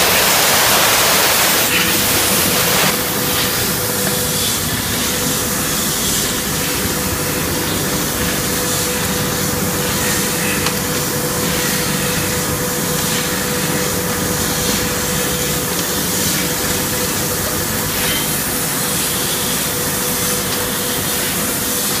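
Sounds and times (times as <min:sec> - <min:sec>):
grinding machine running: 0:00.0 - 0:22.0.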